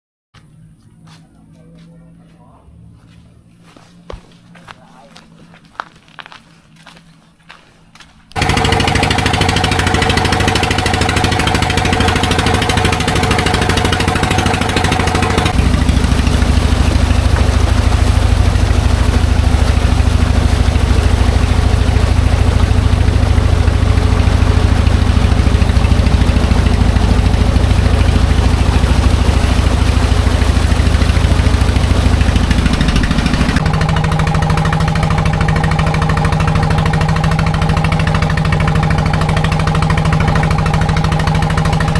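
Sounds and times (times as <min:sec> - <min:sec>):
boat engine droning: 0:00.4 - 0:41.9.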